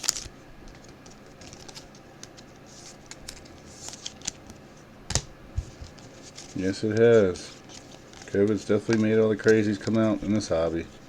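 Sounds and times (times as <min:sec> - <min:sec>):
trading cards being flipped: 0:00.0 - 0:10.4.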